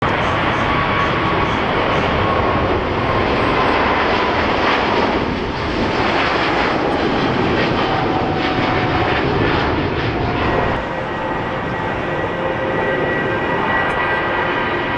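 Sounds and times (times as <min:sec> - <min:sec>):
jet engine whine: 0:00.0 - 0:14.9
jet engines running loudly: 0:00.0 - 0:14.9.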